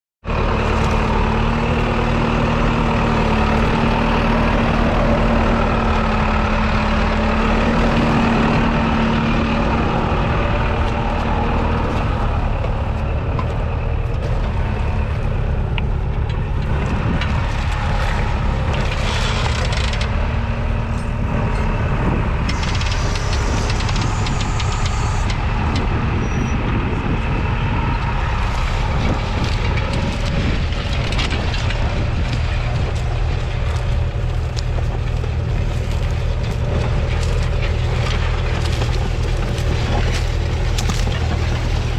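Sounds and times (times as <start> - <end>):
tractor diesel engine running: 0.2 - 41.9.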